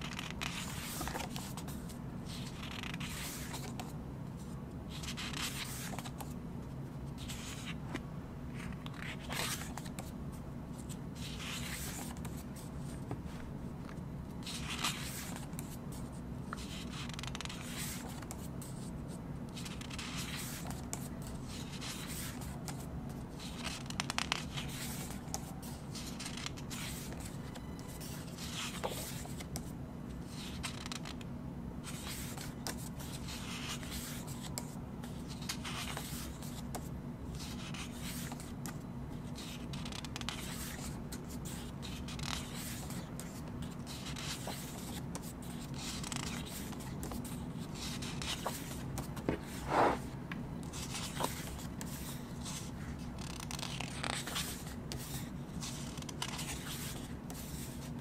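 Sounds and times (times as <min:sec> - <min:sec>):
book pages turning: 0:00.0 - 0:06.4, 0:07.1 - 0:08.0, 0:08.6 - 0:10.1, 0:10.7 - 0:18.8, 0:19.6 - 0:31.2, 0:31.8 - 0:58.0.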